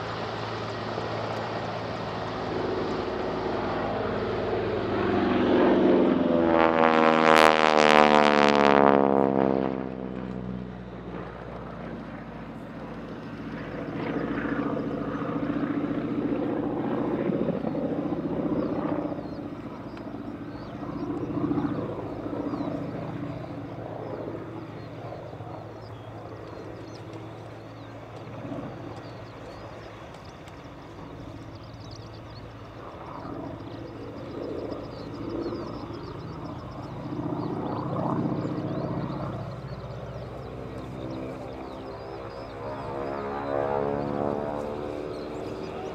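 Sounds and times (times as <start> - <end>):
propeller aircraft engine droning: 0.0 - 45.9.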